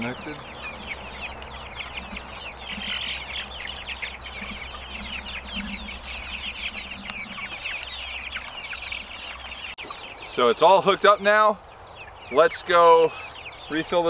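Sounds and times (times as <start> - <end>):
baby chicks peeping: 0.0 - 14.0.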